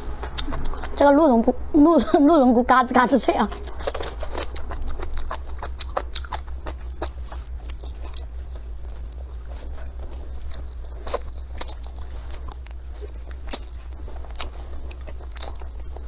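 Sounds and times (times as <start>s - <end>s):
close chewing with crunches: 0.0s - 1.2s, 3.0s - 16.0s
steady low hum: 0.0s - 16.0s.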